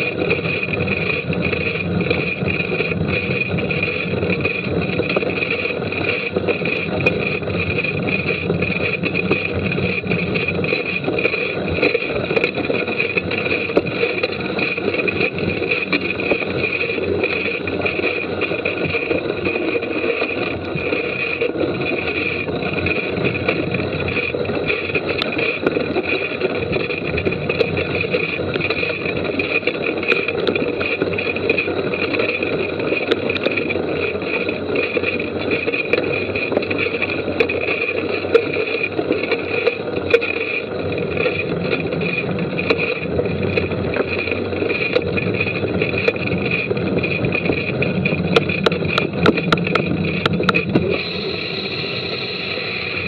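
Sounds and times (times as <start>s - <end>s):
sharp clicks and knocks: 0.0s - 51.2s
bike tyre and drivetrain noise: 0.0s - 53.0s.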